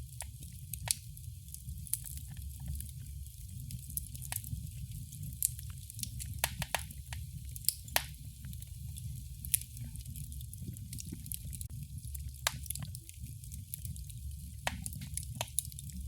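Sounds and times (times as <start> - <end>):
fire pops and snaps: 0.0 - 16.0
low rumble of burning fire: 0.0 - 16.0.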